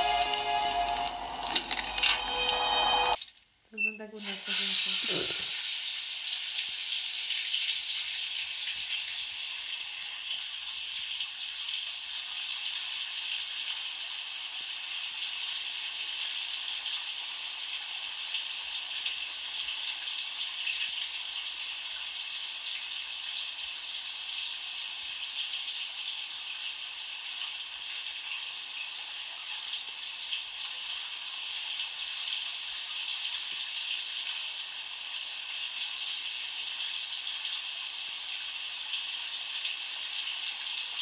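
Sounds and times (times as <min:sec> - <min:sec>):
shower water running: 0:04.2 - 0:41.0.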